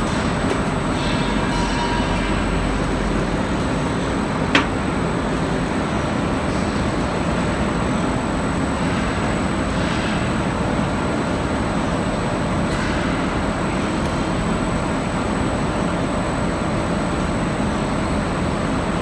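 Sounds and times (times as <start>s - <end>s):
factory machinery rumble and hiss: 0.0s - 19.0s.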